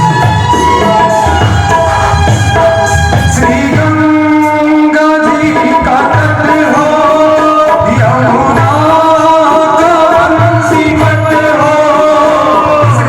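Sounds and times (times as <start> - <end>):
held melody notes: 0.0 - 13.0
person singing: 0.0 - 13.0
tabla drumming: 0.0 - 13.0.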